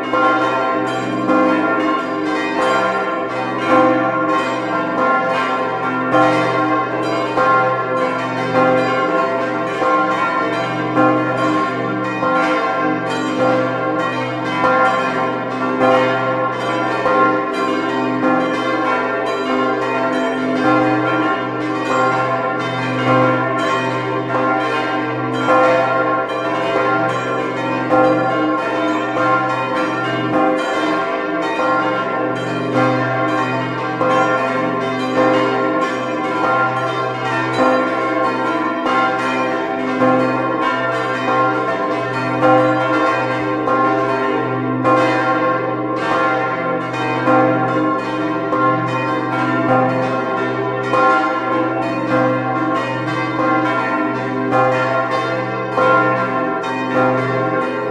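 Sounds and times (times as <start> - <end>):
church bells pealing: 0.0 - 57.9.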